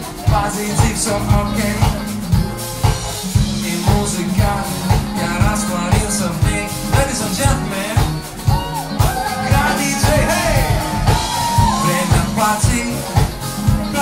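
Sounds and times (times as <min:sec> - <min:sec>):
person singing: 0:00.0 - 0:02.4, 0:03.4 - 0:14.0
bass and electric guitar: 0:00.0 - 0:14.0
drum kit beat: 0:00.0 - 0:14.0.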